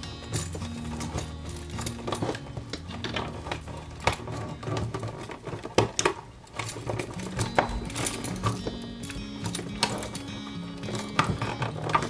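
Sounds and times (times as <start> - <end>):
background music: 0.0 - 12.0
outlets clicking into plastic box: 0.0 - 12.0.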